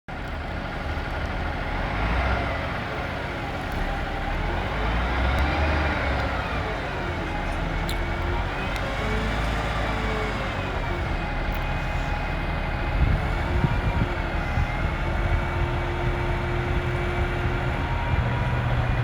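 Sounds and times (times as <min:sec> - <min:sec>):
diesel truck engine running: 0:00.1 - 0:19.0.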